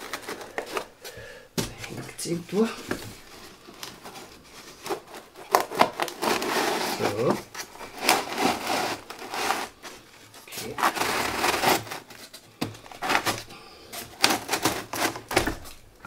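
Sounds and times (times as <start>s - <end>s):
hands handling model parts: 0.0s - 16.0s.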